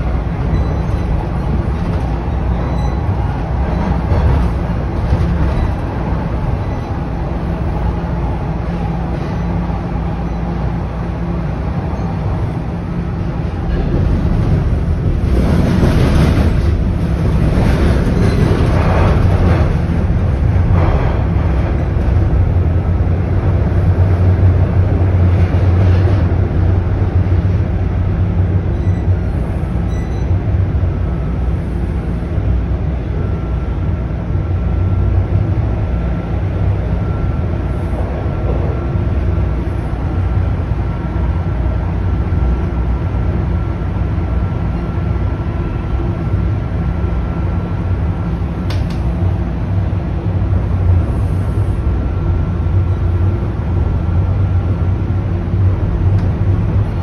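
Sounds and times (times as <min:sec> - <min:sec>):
rush of train noise: 0:00.0 - 0:57.0
train wheels rumbling on rail: 0:00.0 - 0:57.0.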